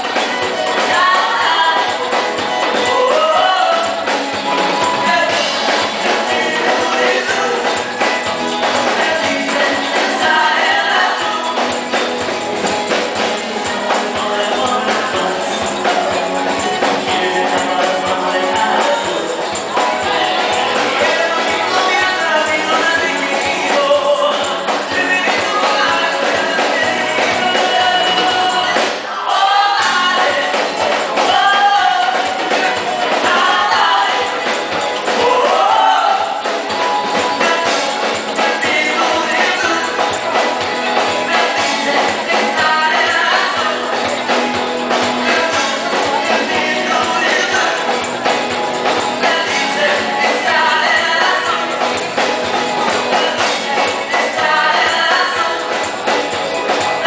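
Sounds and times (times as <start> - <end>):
live band playing: 0.0 - 57.0
voices singing: 0.0 - 57.0.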